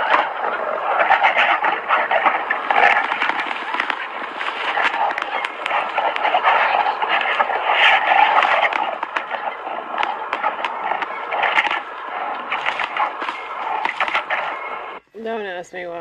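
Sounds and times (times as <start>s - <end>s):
bears fighting scuffle: 0.0s - 15.0s.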